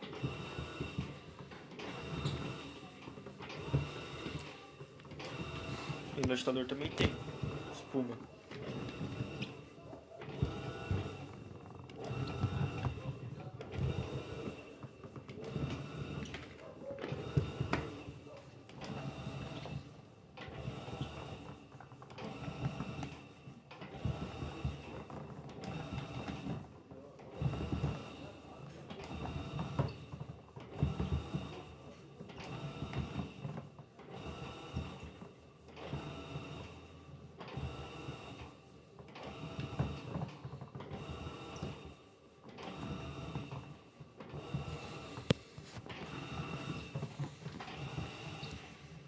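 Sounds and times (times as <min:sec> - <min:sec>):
washing machine motor whirring: 0:00.0 - 0:49.0.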